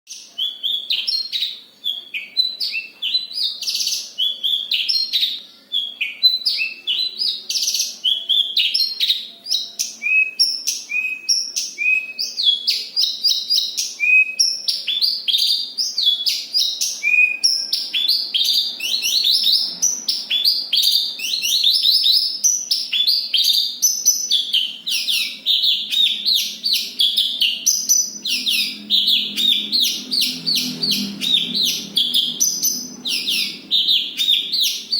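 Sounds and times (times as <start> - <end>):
bird chirping and trilling: 0.1 - 34.9.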